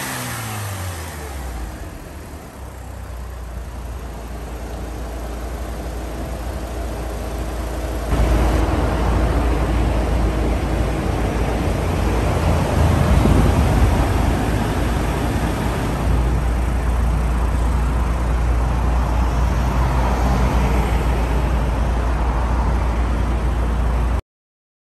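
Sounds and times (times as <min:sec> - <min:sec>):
car engine idling: 0:00.0 - 0:24.2.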